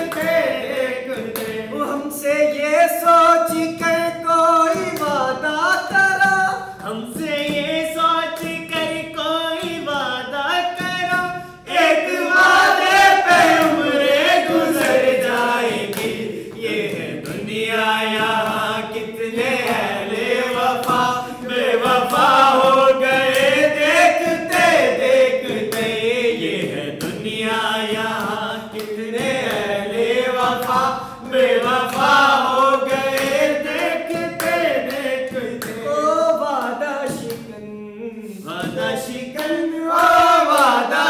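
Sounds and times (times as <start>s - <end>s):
hand claps: 0.0s - 37.6s, 38.5s - 41.0s
men singing in group: 0.0s - 41.0s.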